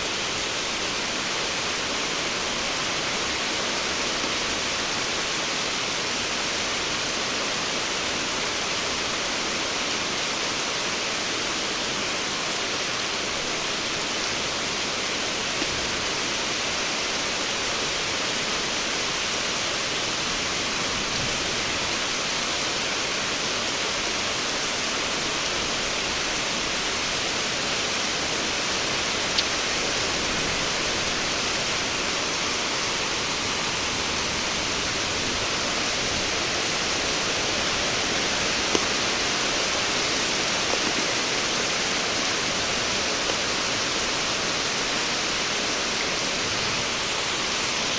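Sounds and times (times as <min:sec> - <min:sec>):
rain falling steadily: 0:00.0 - 0:47.9.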